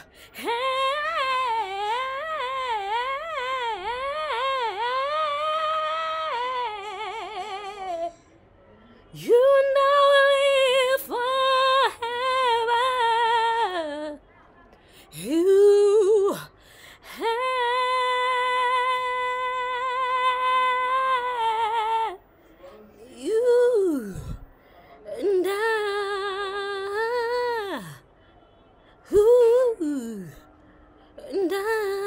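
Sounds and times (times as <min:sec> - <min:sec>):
woman singing unaccompanied: 0:00.0 - 0:08.2, 0:09.2 - 0:14.2, 0:15.0 - 0:22.2, 0:23.1 - 0:24.5, 0:25.1 - 0:28.0, 0:29.0 - 0:30.4, 0:31.2 - 0:32.0.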